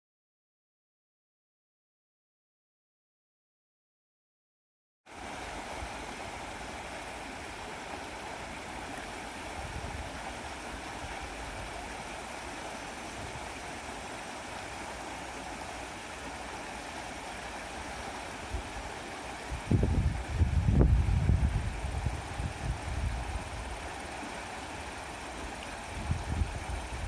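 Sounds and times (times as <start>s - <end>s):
stream flowing over rocks: 5.1s - 27.0s.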